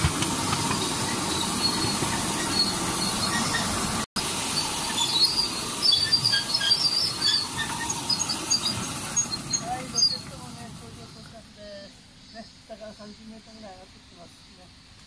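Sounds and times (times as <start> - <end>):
miniature train rumble and hiss: 0.0 - 15.0.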